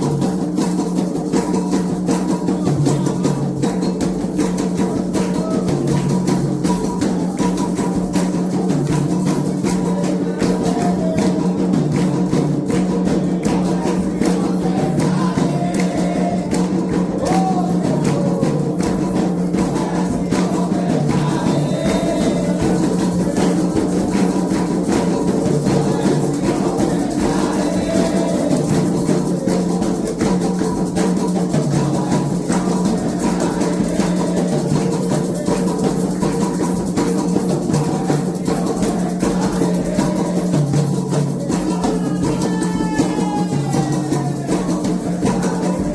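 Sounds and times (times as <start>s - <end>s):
hand drums playing rhythm: 0.0s - 45.9s.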